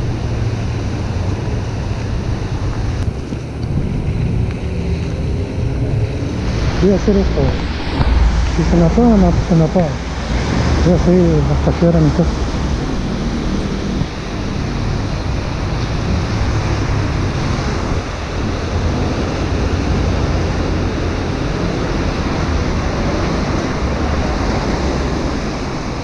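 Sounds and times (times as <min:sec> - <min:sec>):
heavy low rumble: 0:00.0 - 0:24.4
rain rushing: 0:00.0 - 0:26.0
wind buffeting microphone: 0:00.0 - 0:26.0.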